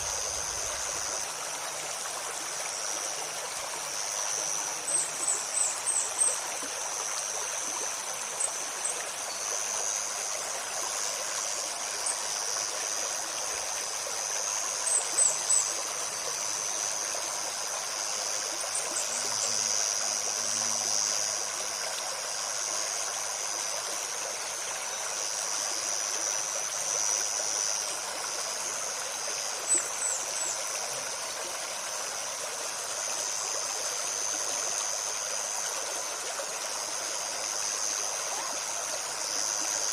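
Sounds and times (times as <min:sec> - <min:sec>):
high insect drone: 0:00.0 - 0:39.9
shallow stream babbling: 0:00.0 - 0:39.9.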